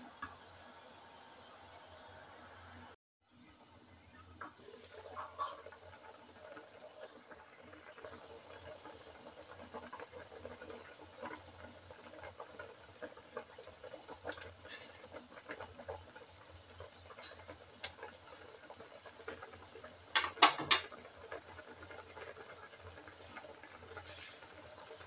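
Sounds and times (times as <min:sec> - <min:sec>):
broth boiling: 0:00.0 - 0:25.0.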